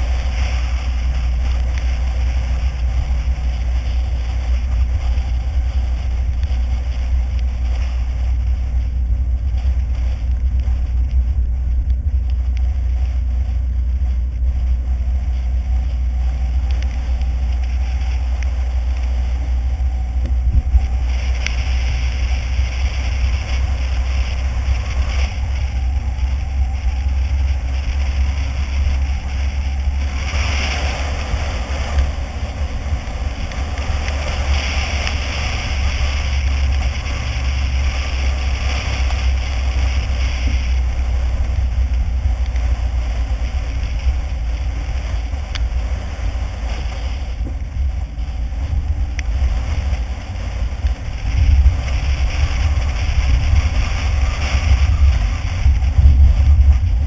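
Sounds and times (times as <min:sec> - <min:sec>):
engine and road rumble: 0:00.0 - 0:57.0
tyres hissing on wet road: 0:00.0 - 0:57.0.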